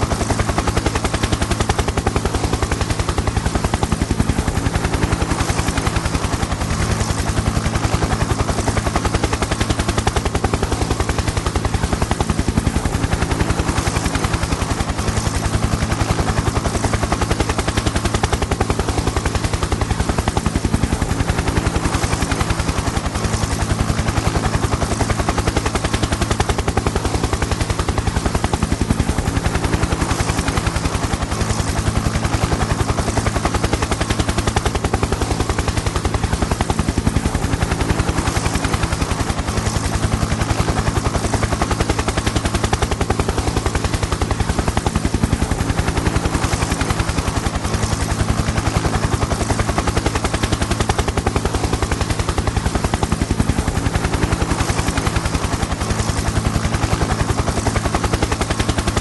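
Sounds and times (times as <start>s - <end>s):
helicopter engine drone: 0.0s - 59.0s
helicopter rotor chop: 0.0s - 59.0s.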